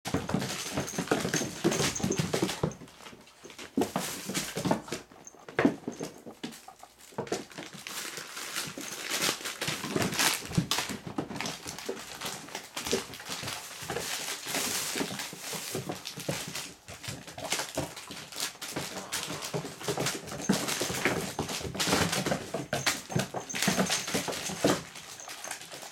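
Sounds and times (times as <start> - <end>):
puppies scuffling on wooden floor: 0.1 - 25.9.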